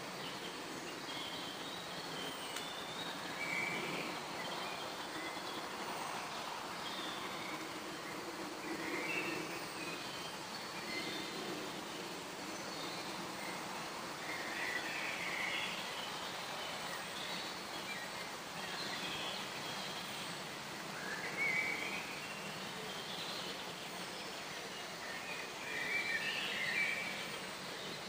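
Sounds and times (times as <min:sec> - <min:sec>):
songbirds singing: 0:00.0 - 0:28.0
steady background hiss: 0:00.0 - 0:28.0.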